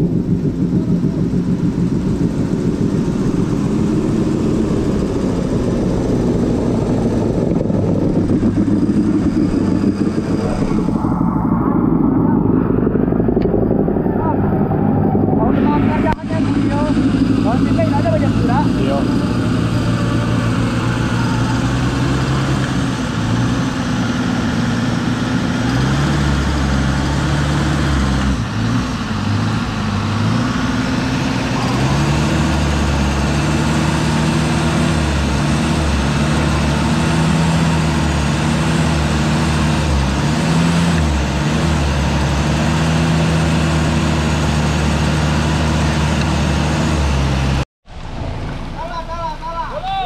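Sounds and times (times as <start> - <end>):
off-road vehicle engine under load: 0.0 - 50.0.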